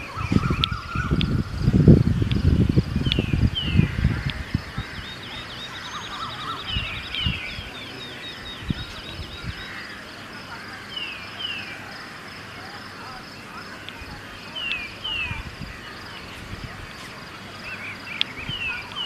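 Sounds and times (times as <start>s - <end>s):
birds chirping: 0.0s - 19.0s
wind buffeting microphone: 0.0s - 19.0s.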